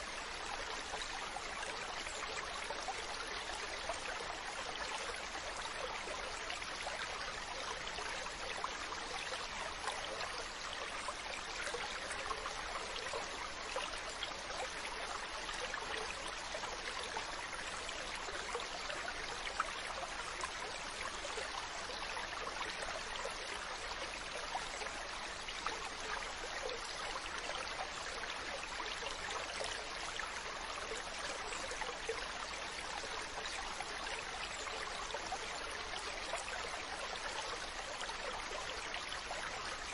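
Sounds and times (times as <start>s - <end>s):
running water stream: 0.0s - 39.9s.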